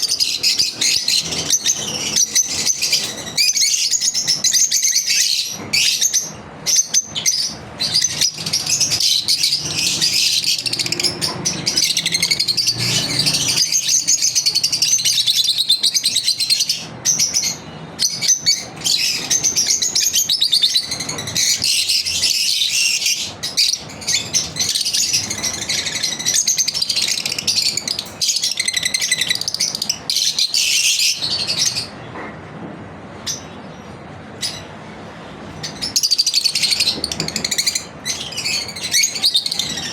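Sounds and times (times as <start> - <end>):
lovebirds chirping: 0.0 - 32.0, 33.2 - 39.9.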